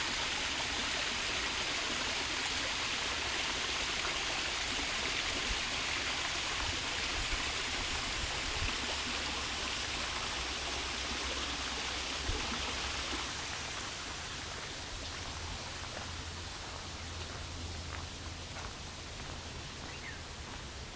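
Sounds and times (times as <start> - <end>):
running water rushing: 0.0 - 20.9.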